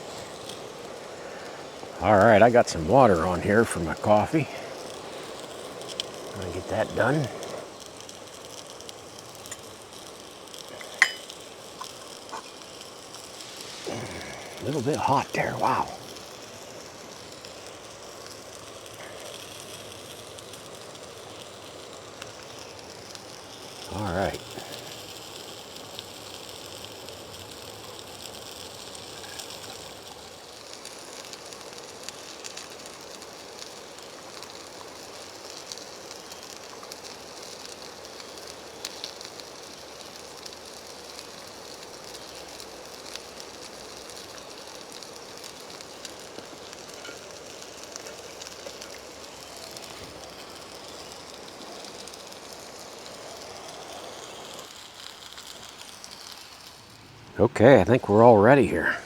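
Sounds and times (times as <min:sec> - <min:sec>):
camp stove hissing and crackling: 0:00.0 - 0:59.0.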